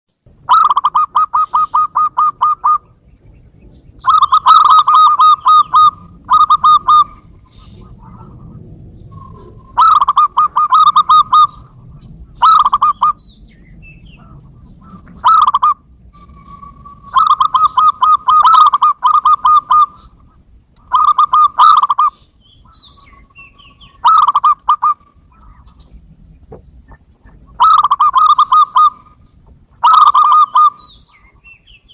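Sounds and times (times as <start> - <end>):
dove cooing: 0.5 - 3.1, 4.0 - 13.2, 13.8 - 31.2.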